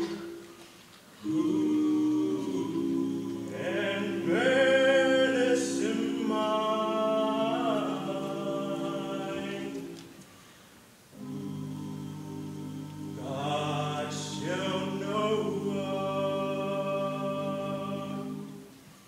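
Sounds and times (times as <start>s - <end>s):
male group singing in harmony: 0.0s - 0.5s, 1.2s - 10.2s, 11.2s - 18.7s.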